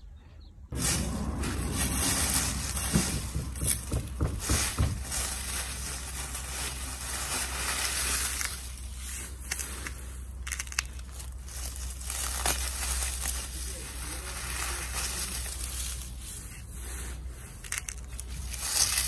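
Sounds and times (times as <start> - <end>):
dry leaves crunching: 0.7 - 19.0.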